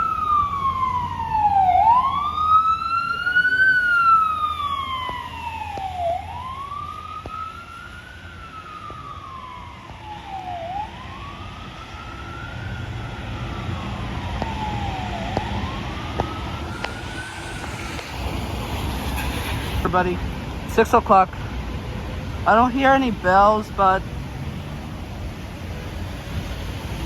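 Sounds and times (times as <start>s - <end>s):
emergency vehicle siren wailing: 0.0s - 27.0s
low rumble of street traffic: 0.0s - 27.0s.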